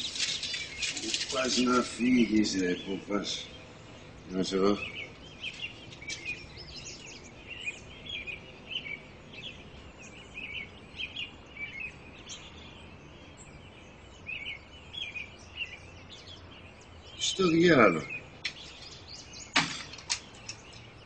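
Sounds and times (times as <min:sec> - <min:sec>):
faint steady hum: 0:00.0 - 0:21.0
small birds chirping: 0:00.0 - 0:21.0.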